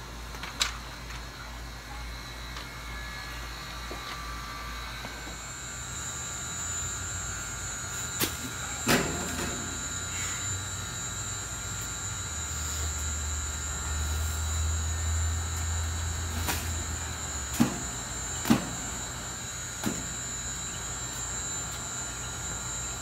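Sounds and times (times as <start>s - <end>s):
thin high whine: 1.4s - 23.0s.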